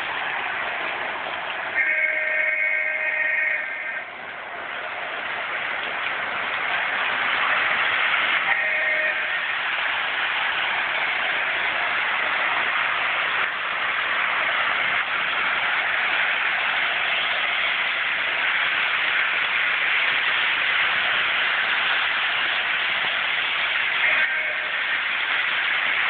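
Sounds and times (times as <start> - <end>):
model train whirring on rails: 0.0 - 26.0.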